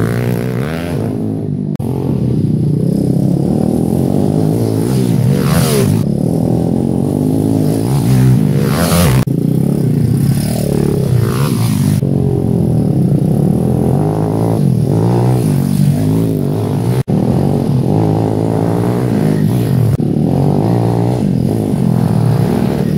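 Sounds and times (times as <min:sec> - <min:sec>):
pit bike engines revving: 0:00.0 - 0:22.9.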